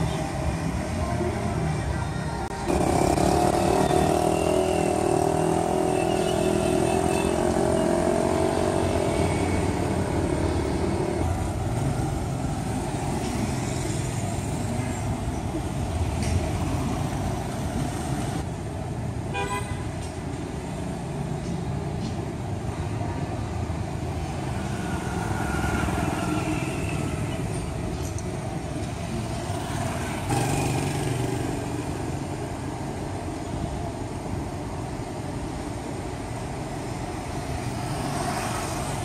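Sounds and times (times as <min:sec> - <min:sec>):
cars and motorbikes passing: 0:00.0 - 0:21.9, 0:22.5 - 0:39.0.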